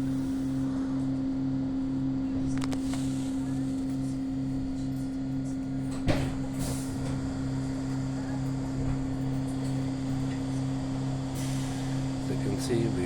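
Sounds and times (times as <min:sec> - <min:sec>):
electrical hum inside train: 0:00.0 - 0:13.0.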